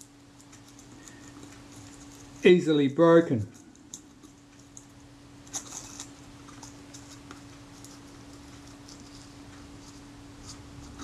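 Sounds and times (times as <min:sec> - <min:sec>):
blade ticks and scratches: 0:00.0 - 0:11.0
low steady hum: 0:00.0 - 0:11.0.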